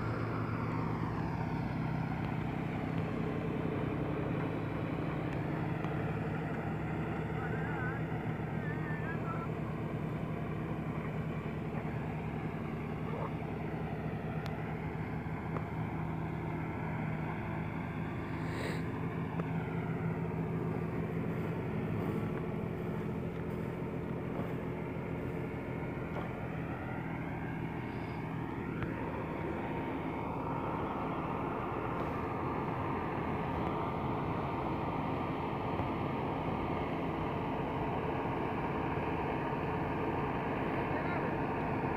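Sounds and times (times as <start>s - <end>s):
tractor engine droning: 0.0s - 41.9s.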